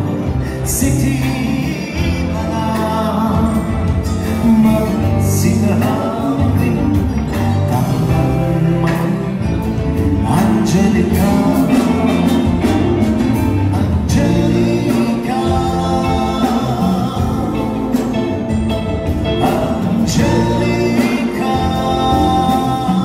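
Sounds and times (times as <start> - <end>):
drum kit beat: 0.0 - 23.0
electric guitar: 0.0 - 23.0
man singing: 0.0 - 23.0.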